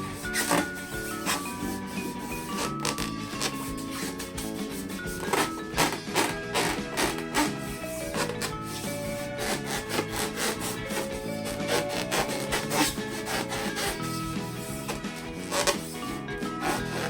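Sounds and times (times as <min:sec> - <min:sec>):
background music: 0:00.0 - 0:17.0
balloons rubbed and squeezed: 0:00.0 - 0:17.0.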